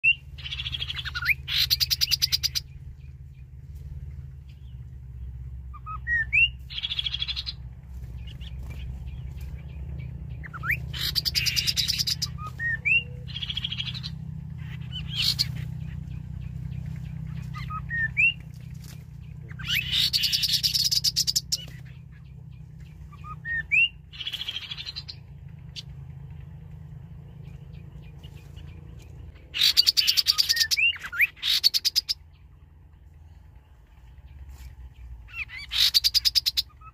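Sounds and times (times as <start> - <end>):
bird song through loudspeaker: 0.0 - 36.9
steady low hum: 0.0 - 36.9.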